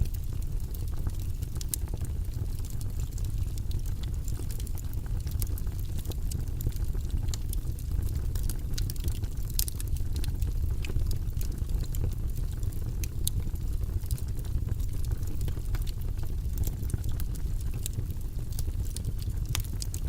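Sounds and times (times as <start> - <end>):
logs crackling in fireplace: 0.0 - 20.0.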